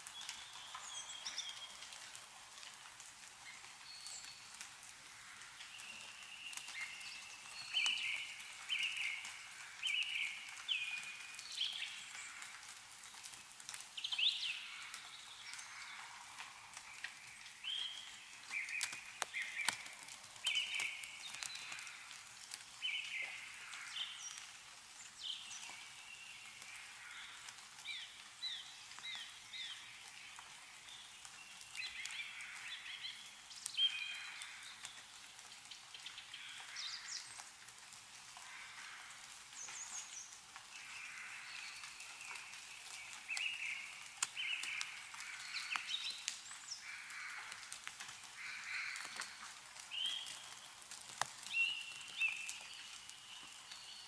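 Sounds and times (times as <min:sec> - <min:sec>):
melting snow dripping: 0:00.0 - 0:54.0
small songbirds chirping: 0:00.0 - 0:54.0.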